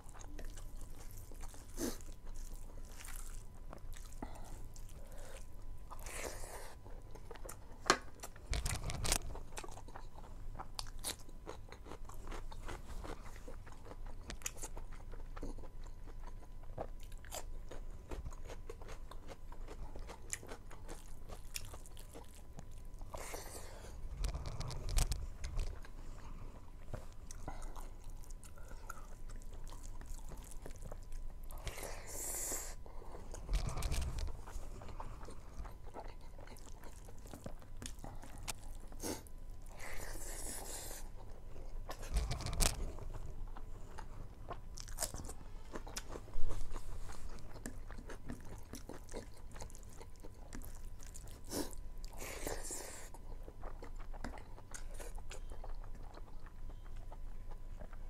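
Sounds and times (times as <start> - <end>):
person chewing and crunching: 0.0 - 58.0.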